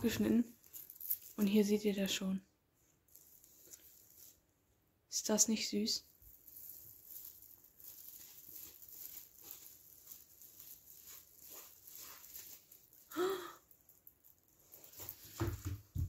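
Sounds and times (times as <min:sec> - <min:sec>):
plastic film crinkling: 0:00.0 - 0:02.0, 0:03.1 - 0:04.5, 0:06.0 - 0:16.0.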